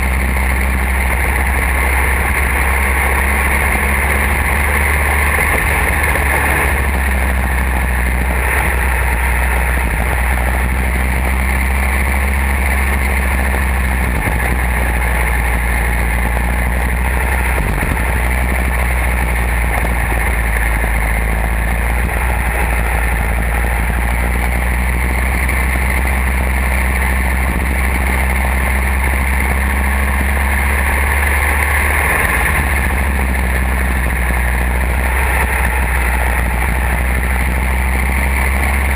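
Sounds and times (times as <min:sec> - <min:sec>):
go-kart engine running hard: 0:00.0 - 0:38.9
road noise: 0:00.0 - 0:38.9
rushing wind: 0:00.0 - 0:38.9.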